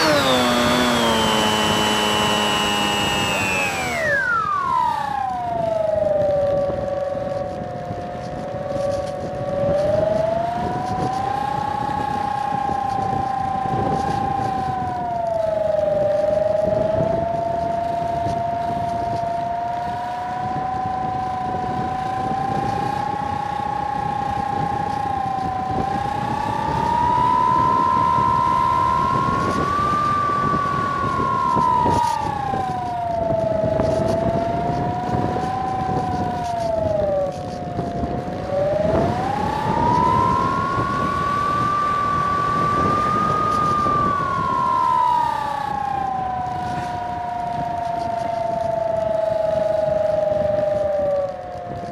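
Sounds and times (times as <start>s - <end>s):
electric motor and propeller whining: 0.0s - 51.9s
wind rushing over microphone: 0.0s - 51.9s.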